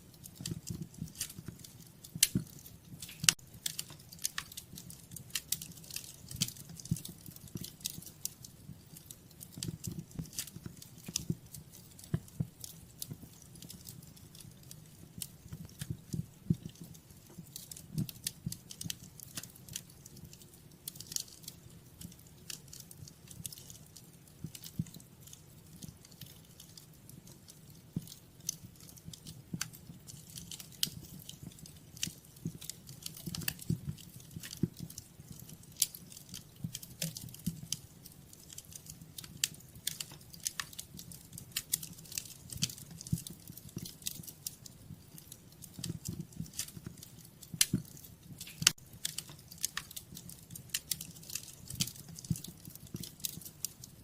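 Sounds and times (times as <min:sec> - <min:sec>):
low steady fire rumble: 0:00.0 - 0:54.0
wood fire crackling and popping: 0:00.0 - 0:54.0.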